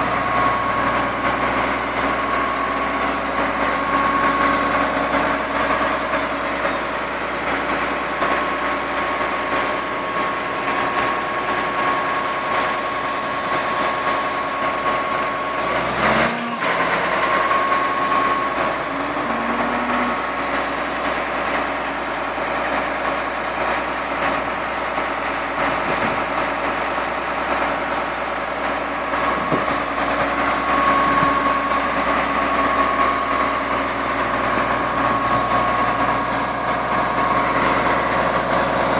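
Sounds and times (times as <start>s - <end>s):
bulldozer diesel engine running: 0.0s - 38.9s
steady high whine: 0.0s - 38.9s.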